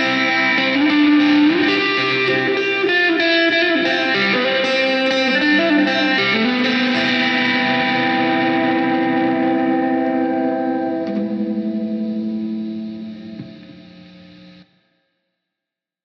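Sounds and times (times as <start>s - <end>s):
distorted electric guitar music: 0.0s - 14.8s.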